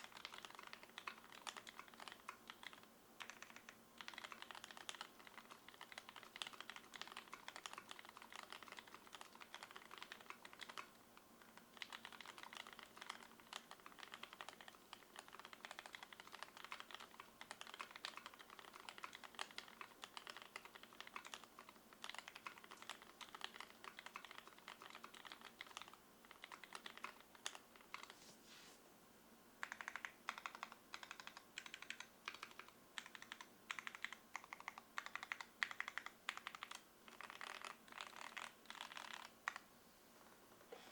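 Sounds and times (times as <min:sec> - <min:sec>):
mechanical keyboard typing: 0:00.0 - 0:28.1, 0:29.6 - 0:39.6.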